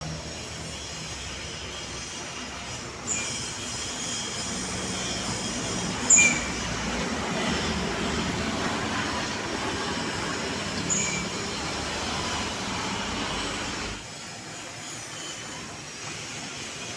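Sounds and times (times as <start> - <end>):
heavy trucks passing: 0.0 - 14.0
short high-pitched squeals: 0.2 - 8.4, 10.0 - 16.9.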